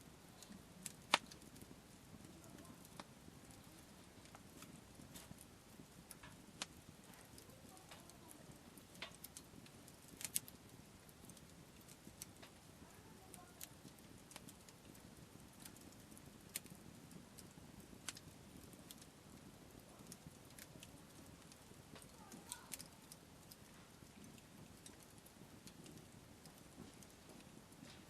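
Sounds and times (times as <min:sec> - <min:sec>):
campfire crackling: 0:00.0 - 0:28.0
fire pops and snaps: 0:00.0 - 0:28.0.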